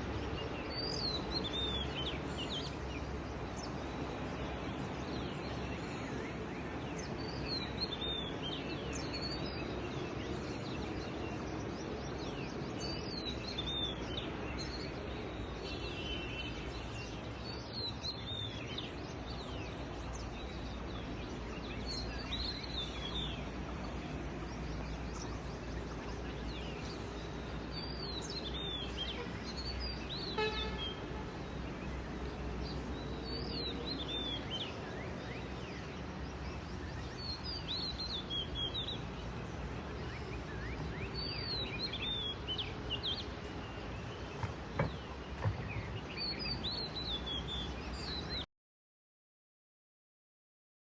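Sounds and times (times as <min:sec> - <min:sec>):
steady background noise: 0:00.0 - 0:48.4.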